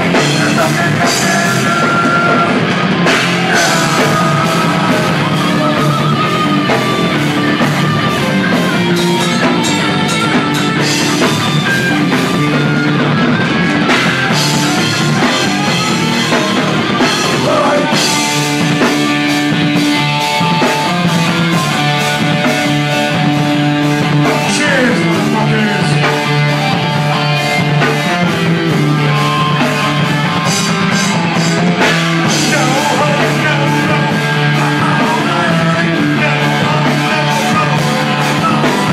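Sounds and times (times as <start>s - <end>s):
vocals: 0.0s - 12.7s, 13.8s - 38.9s
bass guitar: 0.0s - 38.9s
distorted electric guitars: 0.0s - 38.9s
pounding drum kit: 0.0s - 38.9s.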